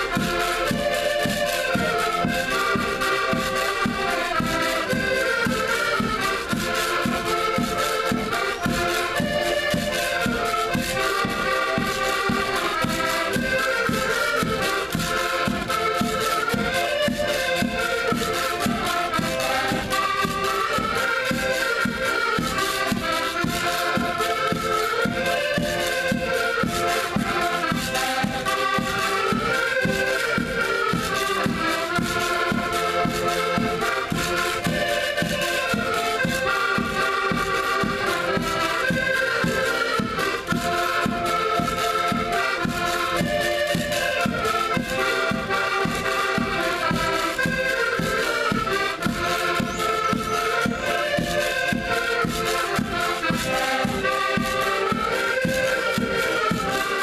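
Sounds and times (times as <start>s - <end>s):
accordion ensemble playing: 0.0s - 57.0s.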